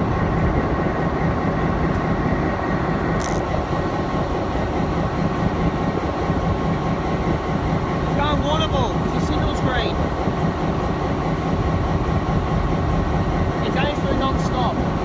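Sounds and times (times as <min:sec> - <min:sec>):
diesel train engine humming: 0:00.0 - 0:15.0.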